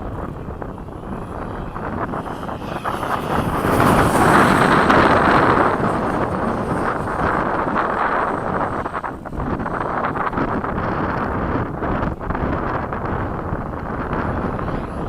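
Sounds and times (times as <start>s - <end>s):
model jet whine flying past: 0.0s - 15.0s
wind buffeting microphone: 0.0s - 15.0s.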